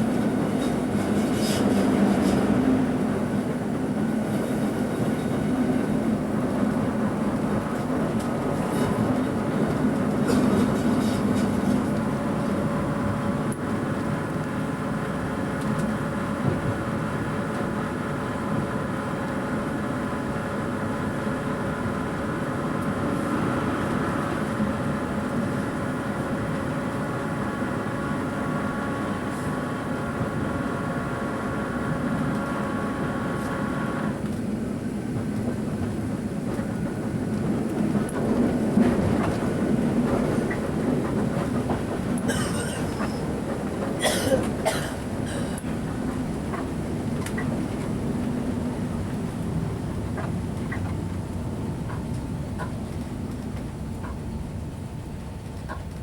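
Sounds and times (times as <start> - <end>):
rumble of wheels on track: 0.0 - 56.0.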